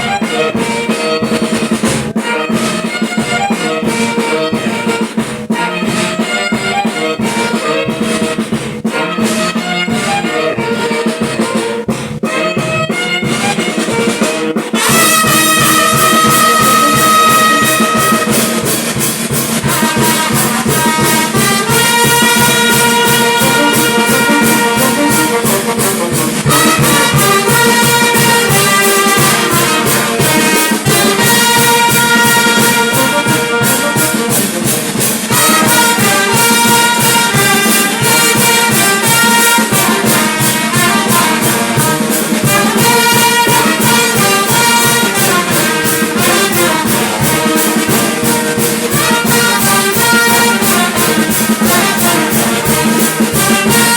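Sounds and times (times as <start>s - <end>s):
brass chords: 0.0s - 53.9s
steady drum beat: 0.0s - 53.9s.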